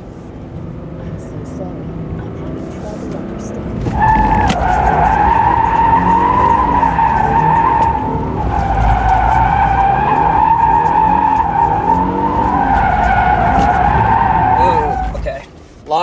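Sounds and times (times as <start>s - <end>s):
car engine revving: 0.0s - 16.0s
tyres squealing: 1.3s - 16.0s.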